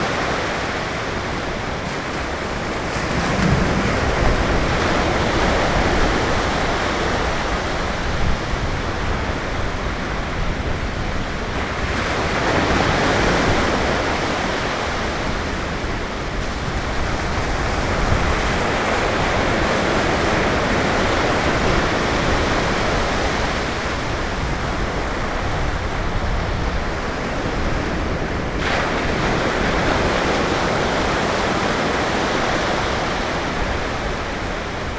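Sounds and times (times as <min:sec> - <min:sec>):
surf breaking on a beach: 0:00.0 - 0:34.9.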